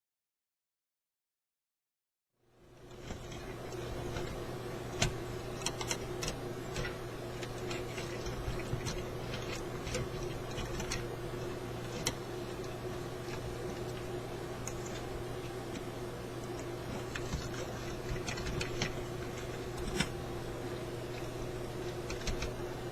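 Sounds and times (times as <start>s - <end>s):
low hum: 2.4s - 22.9s.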